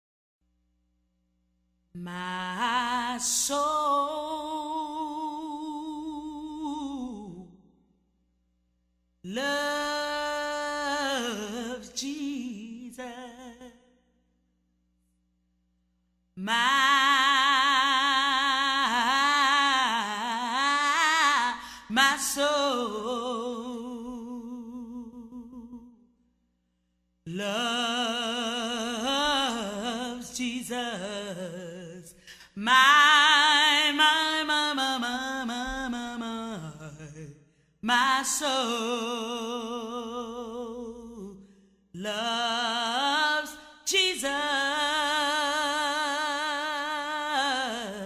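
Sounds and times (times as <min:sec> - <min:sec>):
woman singing a cappella gospel: 0:02.0 - 0:07.7, 0:09.2 - 0:13.9, 0:16.4 - 0:26.0, 0:27.3 - 0:48.0.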